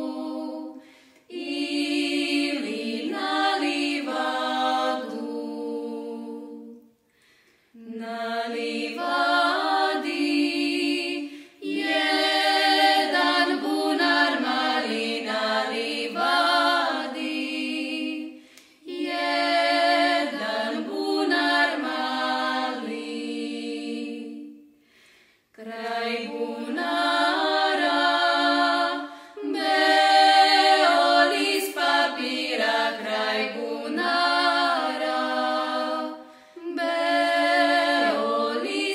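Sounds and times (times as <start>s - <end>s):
women singing unaccompanied: 0.0s - 6.8s, 7.8s - 24.6s, 25.6s - 38.9s.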